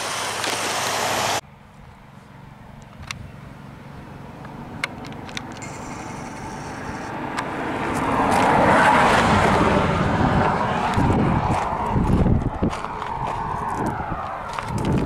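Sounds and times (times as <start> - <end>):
road vehicle passing by: 0.0 - 15.0.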